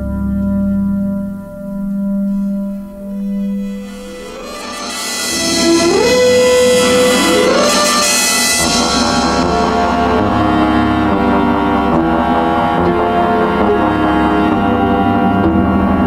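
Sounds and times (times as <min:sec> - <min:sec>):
steady low hum: 0:00.0 - 0:16.0
orchestral music: 0:03.0 - 0:16.0.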